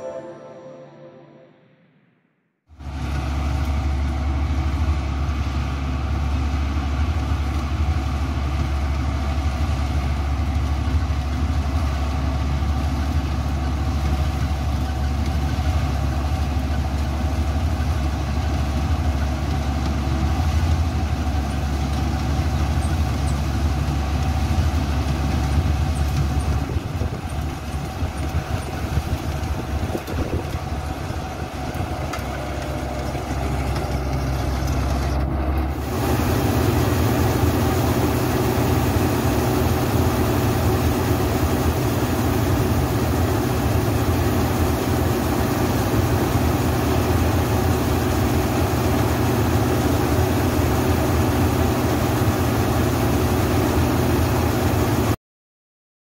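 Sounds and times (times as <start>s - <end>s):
combine harvester engine humming: 2.8s - 55.2s.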